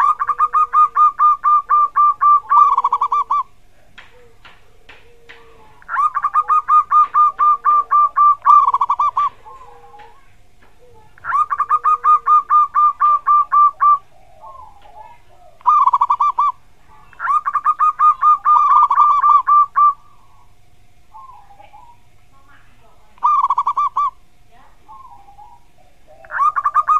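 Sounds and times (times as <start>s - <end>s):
dove cooing: 0.0s - 26.9s.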